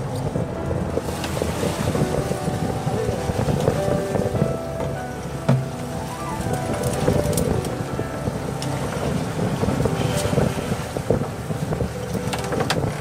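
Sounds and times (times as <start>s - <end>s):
boat motor running: 0.0s - 13.0s
water rushing along hull: 0.0s - 13.0s
wind buffeting microphone: 0.0s - 13.0s.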